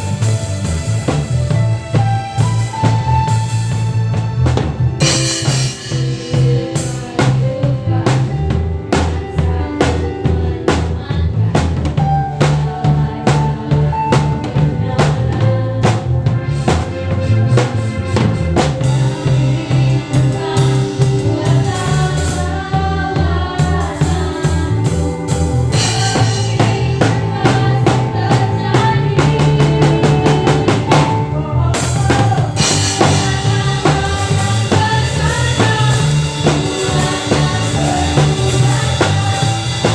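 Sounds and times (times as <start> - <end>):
bass guitar: 0.0 - 39.9
drum kit kick and snare: 0.0 - 39.9
sustained keyboard chords: 0.0 - 39.9.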